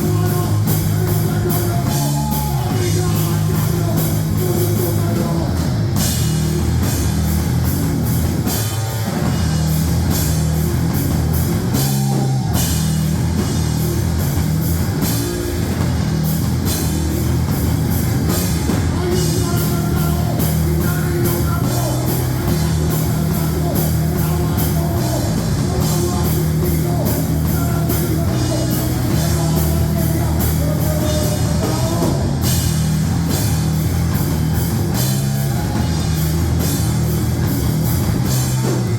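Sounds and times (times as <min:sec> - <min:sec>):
fast drum kit with cymbals: 0:00.0 - 0:38.9
heavy rock music: 0:00.0 - 0:38.9.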